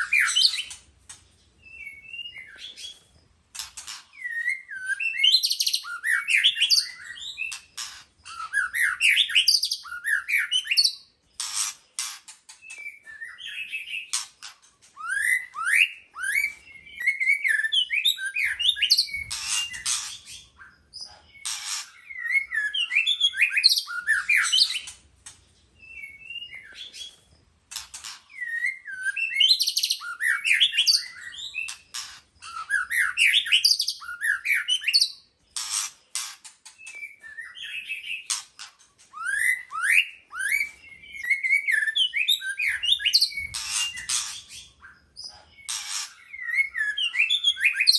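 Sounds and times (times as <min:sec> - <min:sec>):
bird singing whistled notes: 0:00.0 - 0:00.8, 0:01.6 - 0:03.1, 0:04.1 - 0:11.2, 0:12.6 - 0:14.2, 0:14.9 - 0:24.9, 0:25.8 - 0:27.2, 0:28.3 - 0:35.3, 0:36.8 - 0:38.4, 0:39.1 - 0:47.9.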